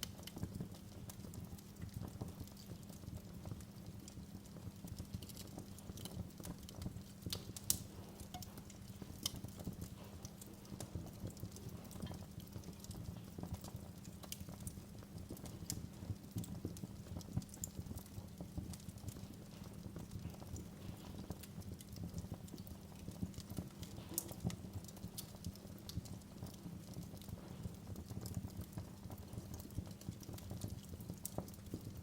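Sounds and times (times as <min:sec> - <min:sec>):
fire crackling pops and snaps: 0:00.0 - 0:32.0.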